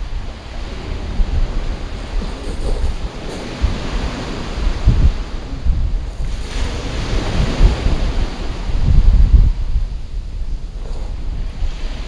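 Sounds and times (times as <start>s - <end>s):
surf on stony beach: 0.0s - 12.0s
wind gusting across microphone: 0.0s - 12.0s.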